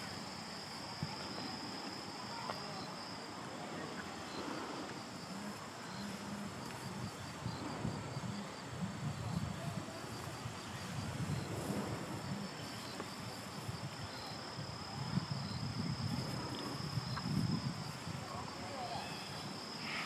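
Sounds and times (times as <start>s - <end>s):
insect high trill: 0.0s - 20.0s
low uneven rumble: 0.0s - 20.0s.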